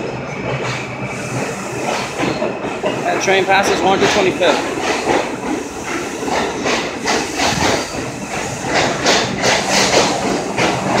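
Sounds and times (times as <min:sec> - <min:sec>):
subway train wheels clacking: 0:00.0 - 0:11.0
train rumble: 0:00.0 - 0:11.0.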